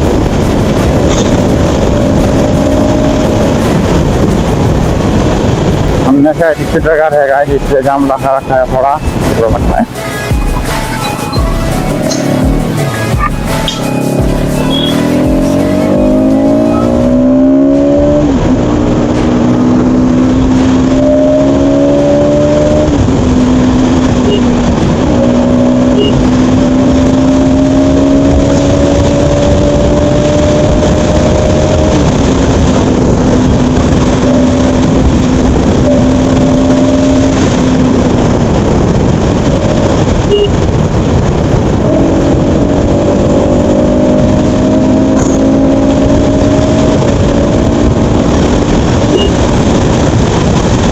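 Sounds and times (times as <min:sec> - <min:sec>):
motorcycle engine revving: 0:00.0 - 0:08.2, 0:09.0 - 0:50.9
wind noise on microphone: 0:00.0 - 0:50.9.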